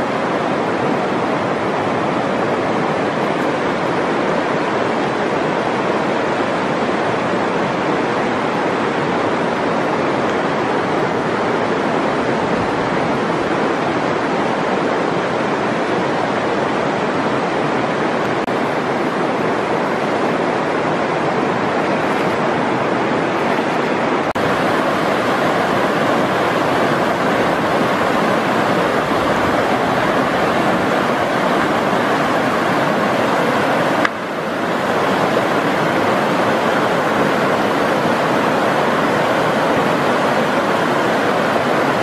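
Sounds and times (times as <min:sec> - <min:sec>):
river flowing over rocks: 0:00.0 - 0:42.0.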